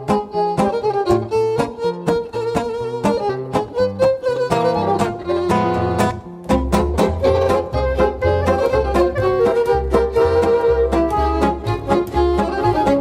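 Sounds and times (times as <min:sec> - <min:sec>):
plucked strings: 0:00.0 - 0:13.0
upbeat violin tune: 0:00.0 - 0:13.0.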